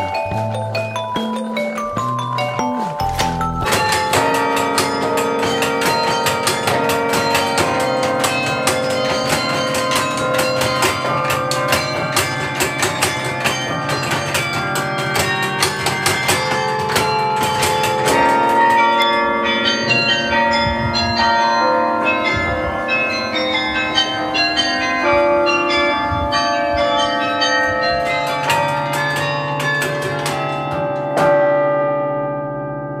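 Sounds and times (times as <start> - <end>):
carillon bells playing melody: 0.0 - 33.0.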